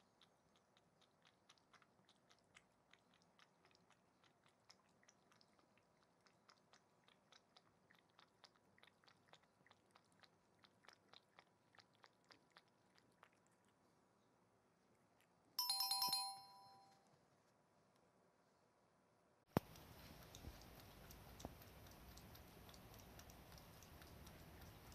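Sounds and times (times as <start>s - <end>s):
cat lapping water: 0.0s - 15.5s, 19.5s - 24.9s.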